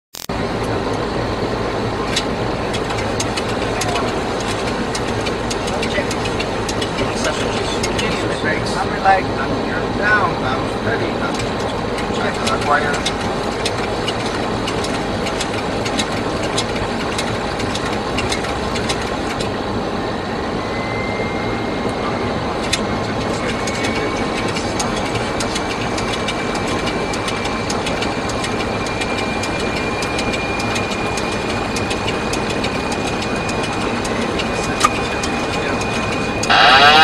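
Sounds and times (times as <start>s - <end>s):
thin rising whine: 0.2s - 37.0s
airflow and jet engine noise: 0.3s - 37.0s.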